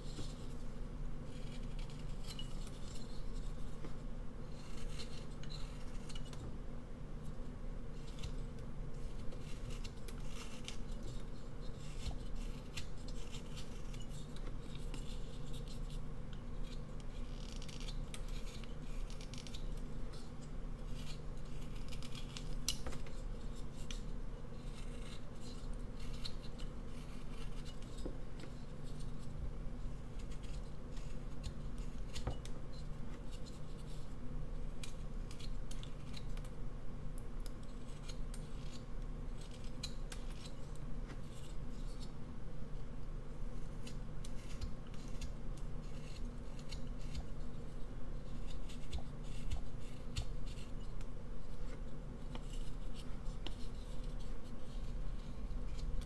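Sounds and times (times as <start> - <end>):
knife scraping wood: 1.3 - 6.5, 8.0 - 34.2, 37.6 - 42.2, 43.5 - 56.0.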